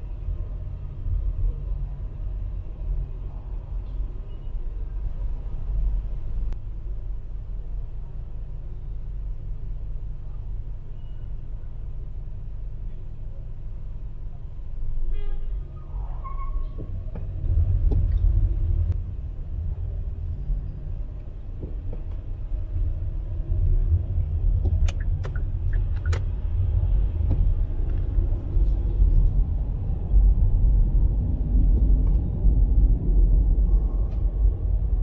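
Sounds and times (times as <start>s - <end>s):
street traffic rumbling: 0.0s - 35.0s.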